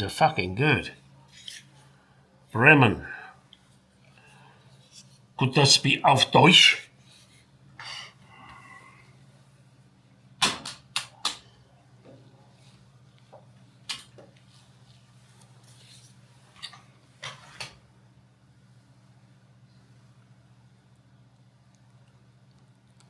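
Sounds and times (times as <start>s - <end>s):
steady low hum: 0.0s - 17.2s, 17.8s - 23.0s.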